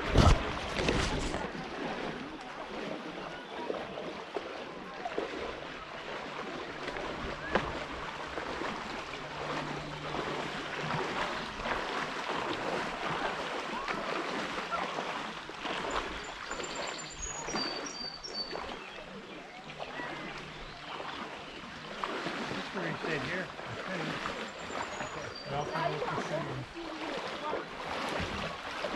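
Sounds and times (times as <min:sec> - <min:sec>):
river water rushing and splashing: 0:00.0 - 0:28.9
small knocks and splashes: 0:00.0 - 0:28.9.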